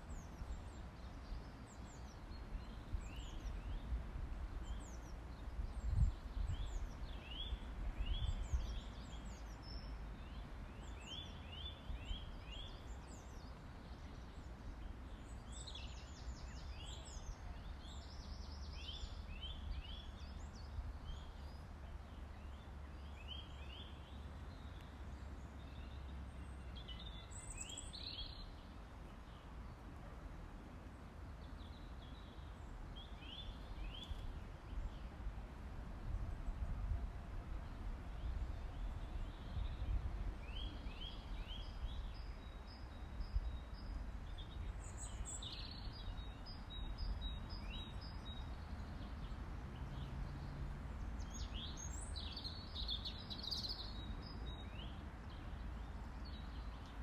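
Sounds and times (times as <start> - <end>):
small birds chirping: 0.0 - 30.0, 31.3 - 35.2, 37.8 - 57.0.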